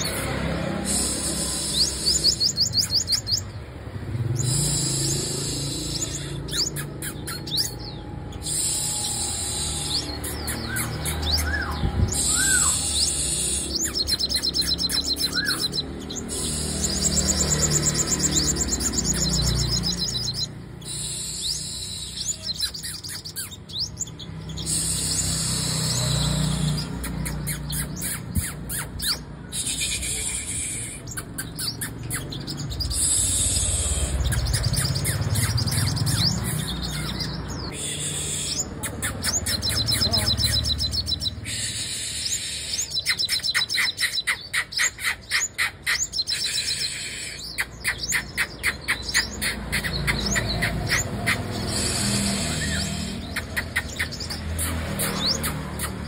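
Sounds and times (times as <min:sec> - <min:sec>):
sunbird chirping and trilling: 0:00.0 - 0:56.0.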